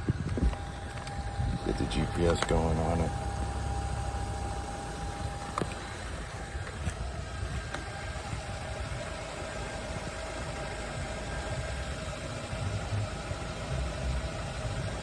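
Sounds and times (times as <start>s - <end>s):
faint steady tone: 0.0s - 15.0s
vehicle engine idling: 0.0s - 15.0s.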